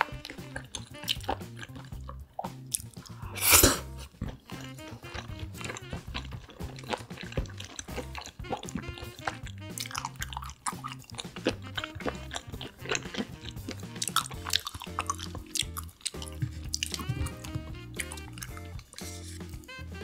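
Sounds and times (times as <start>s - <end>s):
background music with bass: 0.0s - 20.0s
chewing and biting food: 0.0s - 20.0s.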